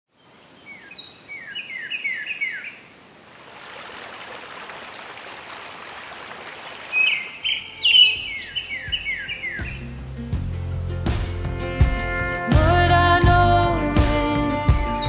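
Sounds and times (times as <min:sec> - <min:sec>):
songbirds chirping: 0:00.1 - 0:15.0.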